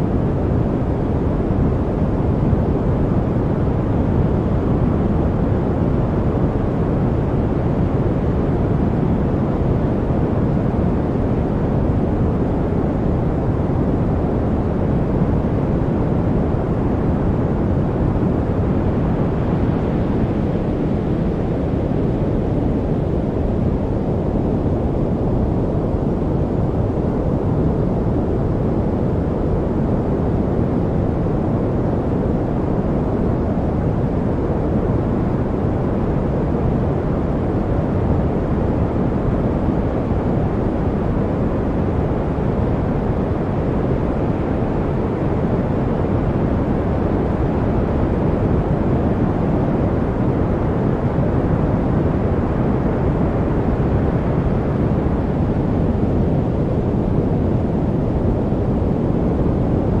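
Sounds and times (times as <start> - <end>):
deep white noise: 0.0 - 60.0.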